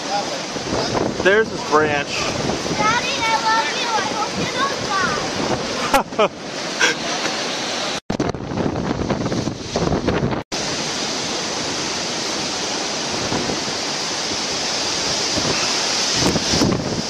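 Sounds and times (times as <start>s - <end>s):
storm wind blowing: 0.0s - 17.0s
wind gusts buffeting microphone: 0.0s - 17.0s.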